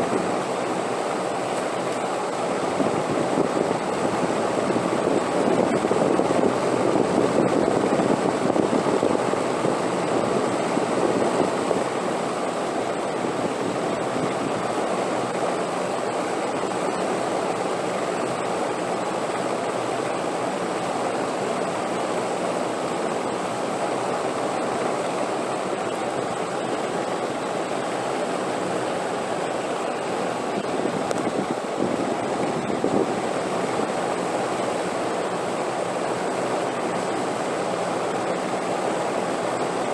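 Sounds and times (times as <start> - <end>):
wind blowing: 0.0 - 17.2, 21.1 - 39.9.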